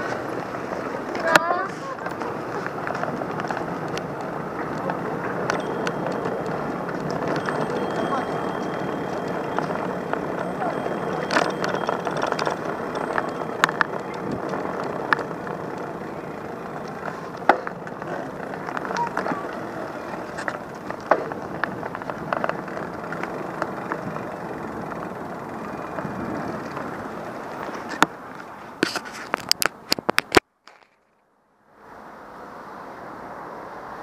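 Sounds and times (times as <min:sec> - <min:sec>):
passing traffic: 0:00.0 - 0:34.0.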